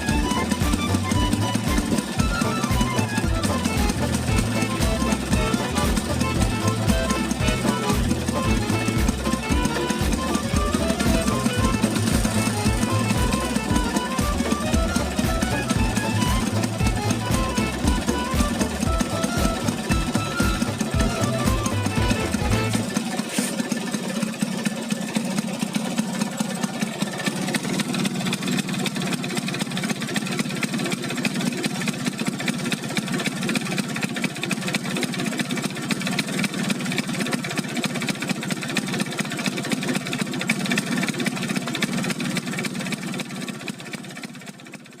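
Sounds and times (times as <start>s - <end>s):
scooter engine idling: 0.0s - 45.0s.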